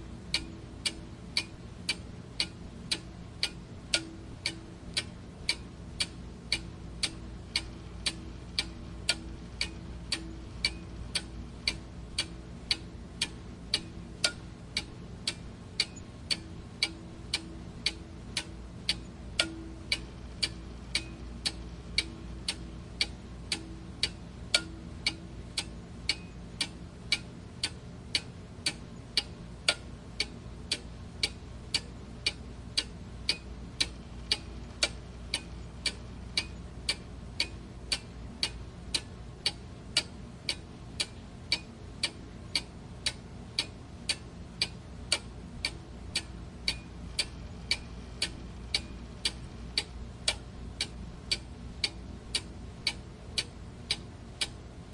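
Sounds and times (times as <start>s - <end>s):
faint low hum: 0.0s - 54.9s
clock ticking: 0.3s - 54.6s.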